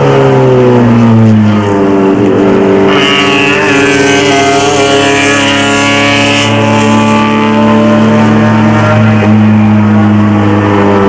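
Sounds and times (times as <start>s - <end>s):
high whine: 0.0s - 11.0s
race car engine at high revs: 0.0s - 11.0s.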